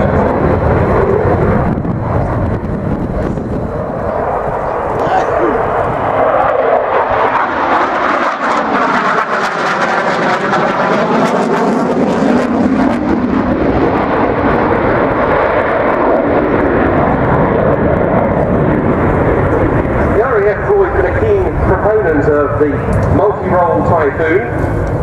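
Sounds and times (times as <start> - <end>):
fighter jet engine roar: 0.0 - 25.0.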